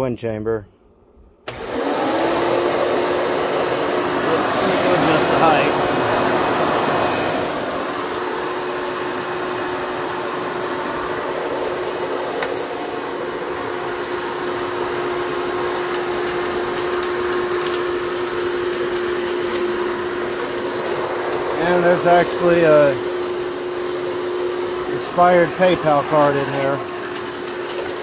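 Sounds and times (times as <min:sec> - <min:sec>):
vacuum cleaner running: 0:01.5 - 0:28.0.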